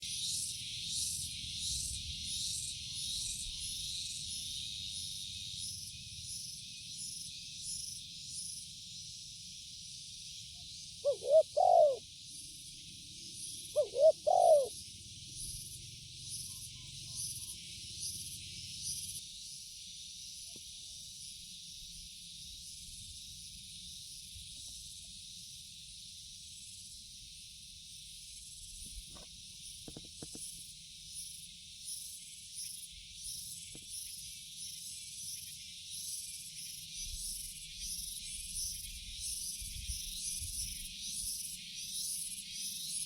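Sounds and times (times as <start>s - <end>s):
insects chorus: 0.0s - 43.0s.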